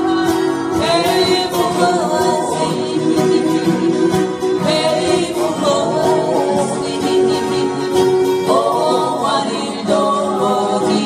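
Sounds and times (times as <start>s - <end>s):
acoustic guitars strumming: 0.0s - 11.0s
voices singing in harmony: 0.0s - 11.0s.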